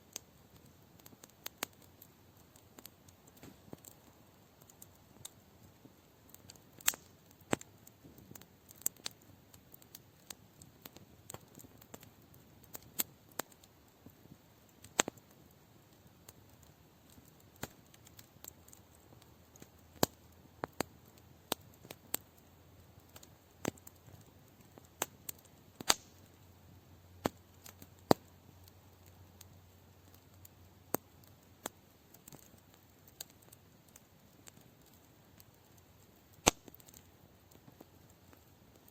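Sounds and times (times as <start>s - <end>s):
campfire crackling: 0.0s - 38.9s
faint steady hiss: 0.0s - 38.9s.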